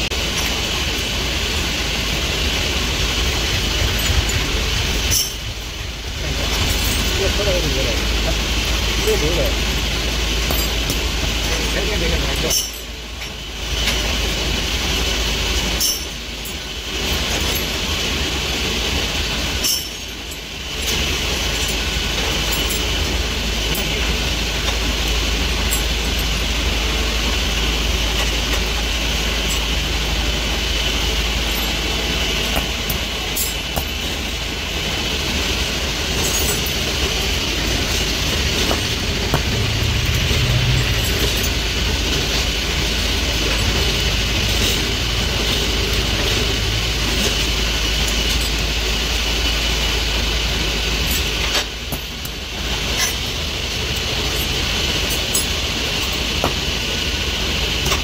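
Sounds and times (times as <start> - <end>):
factory machinery running: 0.0 - 58.0.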